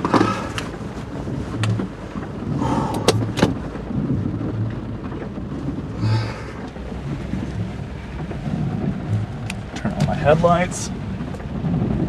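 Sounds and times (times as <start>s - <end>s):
car engine running: 0.0s - 12.0s
rain: 0.0s - 12.0s
windshield wipers: 0.0s - 12.0s.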